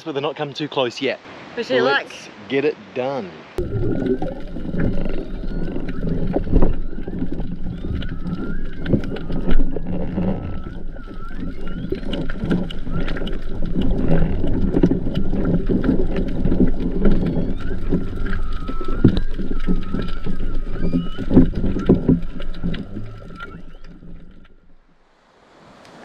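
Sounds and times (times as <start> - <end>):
whale song: 3.6 - 25.0
low underwater rumble: 3.6 - 25.1.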